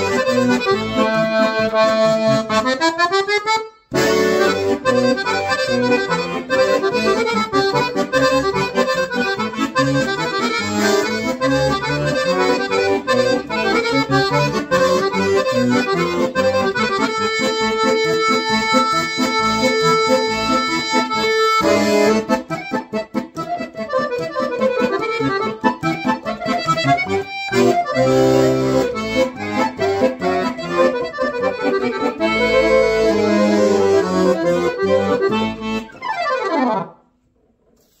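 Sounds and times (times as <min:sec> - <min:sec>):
piano accordion playing: 0:00.0 - 0:37.0.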